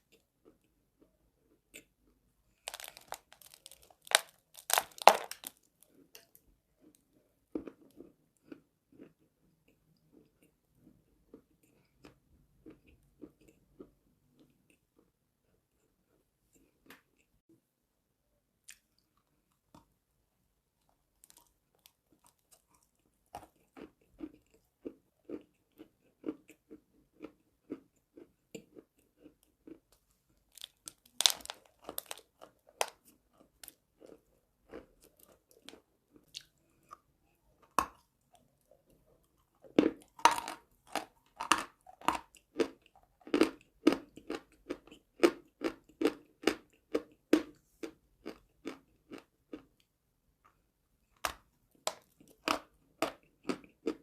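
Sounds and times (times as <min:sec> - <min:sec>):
chalk crunching and chewing: 0:00.0 - 0:17.3, 0:20.8 - 0:54.0.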